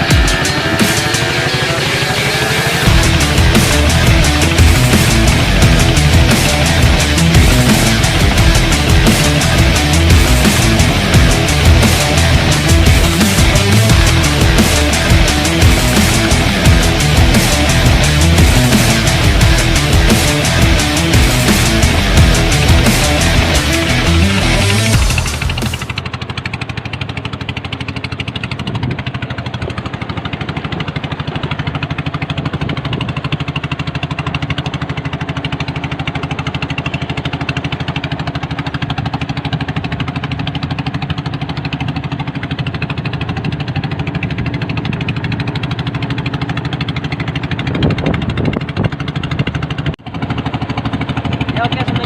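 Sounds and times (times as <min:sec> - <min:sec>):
boat engine chugging: 0:00.0 - 0:52.0.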